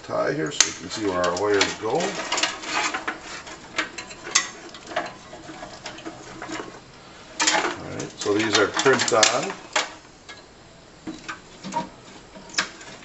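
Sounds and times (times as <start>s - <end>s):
hands handling wires in metal housing: 0.6s - 13.0s.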